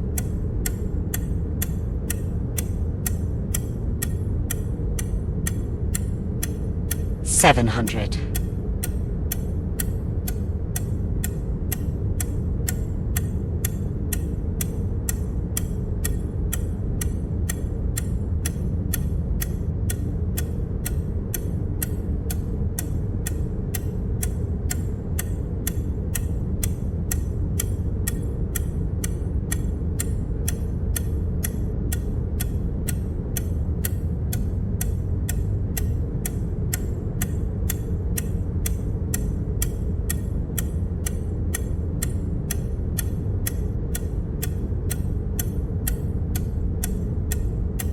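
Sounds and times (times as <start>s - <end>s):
ticking sound effect: 0.1s - 47.9s.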